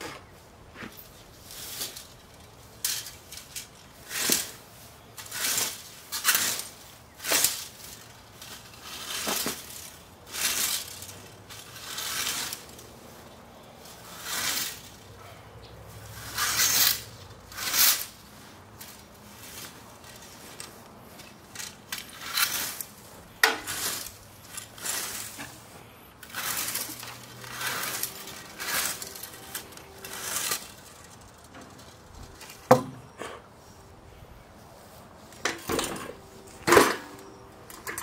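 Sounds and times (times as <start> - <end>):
reel mower blades cutting grass: 1.1 - 15.1, 15.9 - 32.6.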